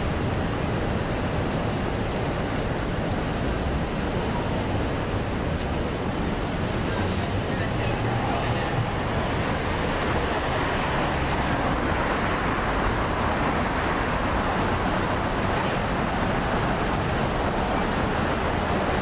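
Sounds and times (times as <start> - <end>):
cars passing on street: 0.0 - 19.0
low traffic rumble: 0.0 - 19.0.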